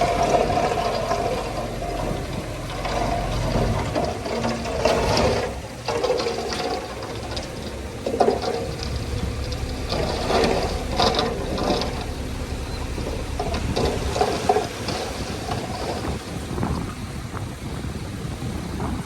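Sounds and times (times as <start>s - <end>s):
track clanks and squeaks: 0.0s - 17.0s
steel tracks clattering: 0.0s - 17.4s
bulldozer diesel engine: 0.0s - 19.0s.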